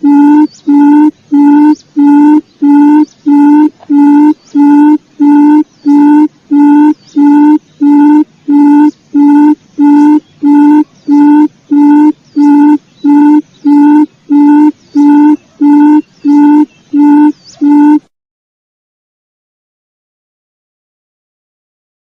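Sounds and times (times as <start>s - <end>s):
quail lure call notes: 0.0s - 18.1s.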